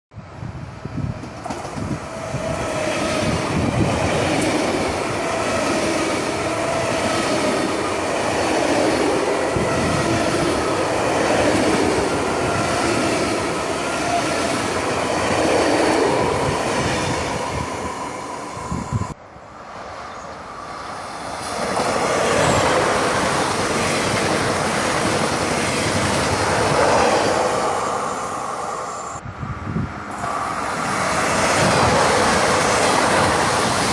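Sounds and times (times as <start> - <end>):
train wheels rumbling on rails: 0.4 - 19.2, 20.7 - 33.9.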